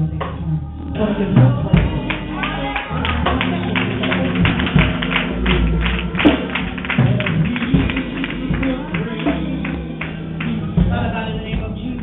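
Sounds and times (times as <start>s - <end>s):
sustained low instrument tones: 0.0s - 12.0s
fast percussive beat: 1.4s - 12.0s.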